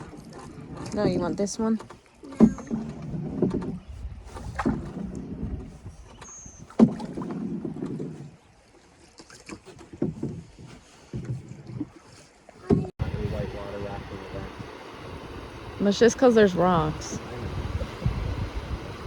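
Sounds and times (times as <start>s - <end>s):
paddle knocking canoe: 0.0s - 19.0s
paddle stroke wash: 0.0s - 19.0s.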